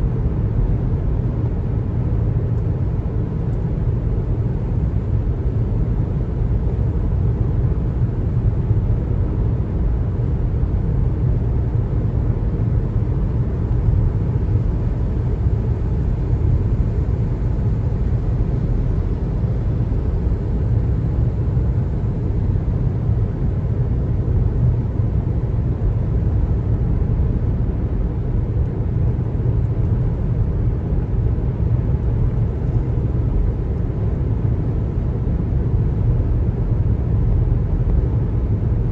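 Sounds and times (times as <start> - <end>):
car driving at speed: 0.0 - 38.9.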